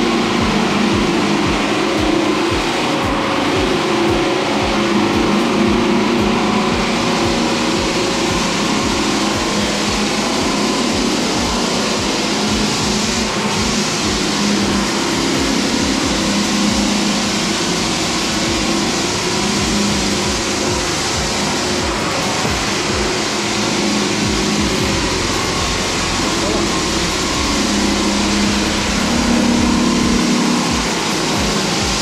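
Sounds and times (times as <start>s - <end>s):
floor sanding machine running: 0.0s - 32.0s.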